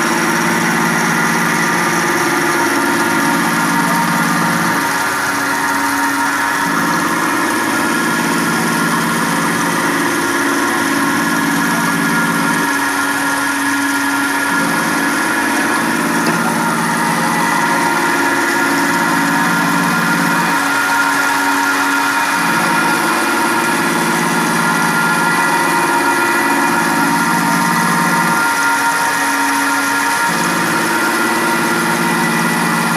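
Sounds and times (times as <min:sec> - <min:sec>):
low machine hum: 0:00.0 - 0:32.9
milling machine whine: 0:00.0 - 0:32.9.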